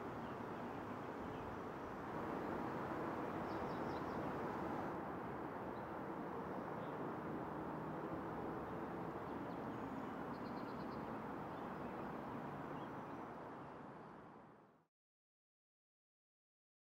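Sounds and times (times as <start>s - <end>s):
faint outdoor background noise: 0.0s - 14.9s.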